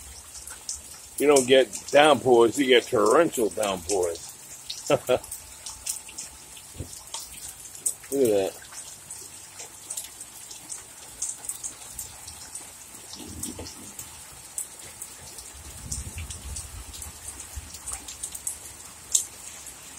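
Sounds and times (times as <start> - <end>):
torrential rain: 0.0 - 19.9.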